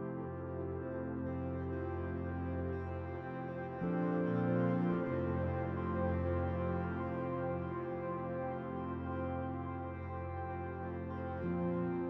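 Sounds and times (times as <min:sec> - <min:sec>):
ambient music with held notes: 0:00.0 - 0:12.0.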